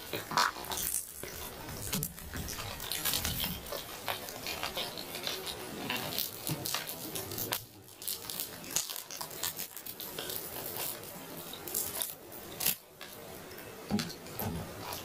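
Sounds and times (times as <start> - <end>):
chicken crunching while eaten: 0.0 - 13.6.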